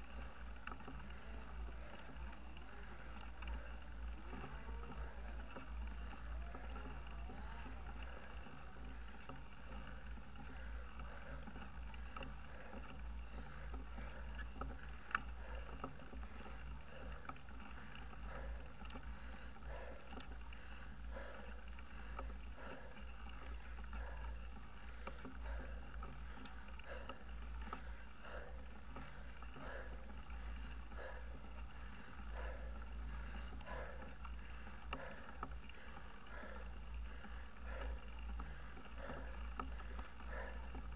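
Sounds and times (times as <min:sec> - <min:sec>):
bike rumbling on paved road: 0:00.0 - 0:40.9.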